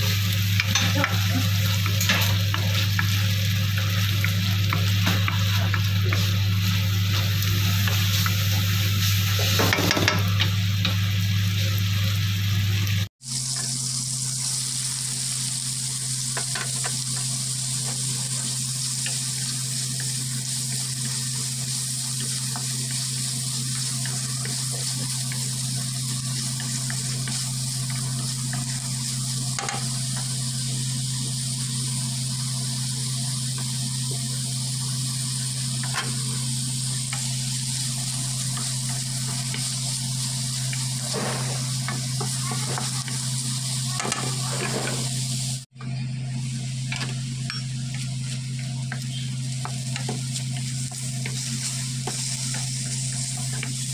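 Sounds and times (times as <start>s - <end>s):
steady low hum: 0.0s - 13.1s, 14.0s - 53.9s
vegetables sizzling in oil: 0.0s - 53.9s.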